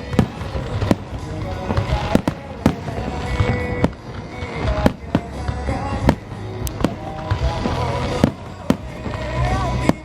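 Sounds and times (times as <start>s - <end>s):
fireworks sharp bangs: 0.0s - 10.0s.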